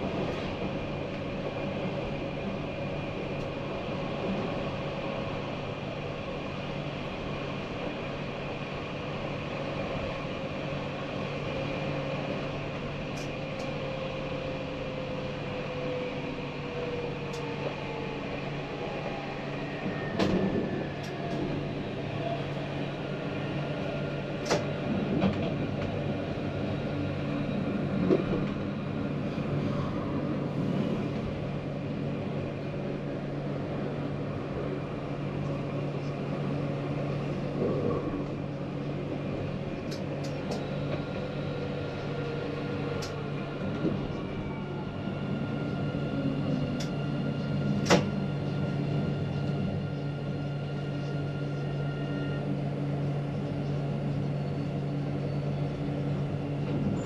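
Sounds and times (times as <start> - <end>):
tram electric hum and whine: 0.0 - 57.0.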